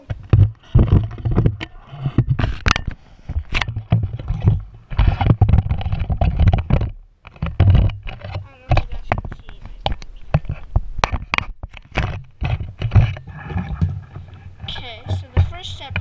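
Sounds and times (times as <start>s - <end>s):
low rumbling handling noise: 0.0s - 16.0s.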